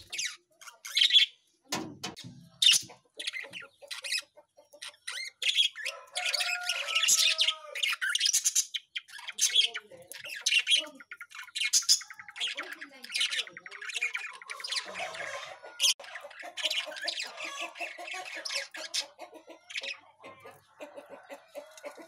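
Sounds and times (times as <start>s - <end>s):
birds chirping and chattering: 0.0s - 22.0s.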